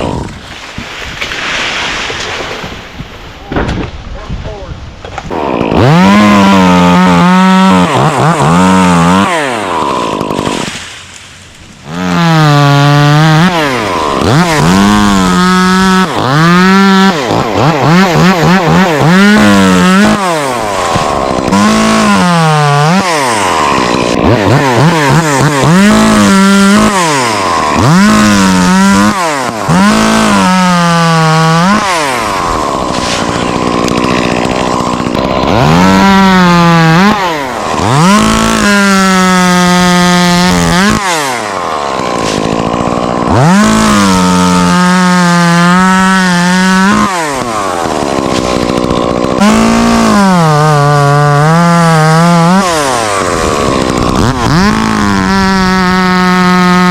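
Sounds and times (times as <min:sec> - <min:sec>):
chainsaw revving and cutting wood: 0:00.0 - 0:03.1, 0:05.1 - 0:56.9.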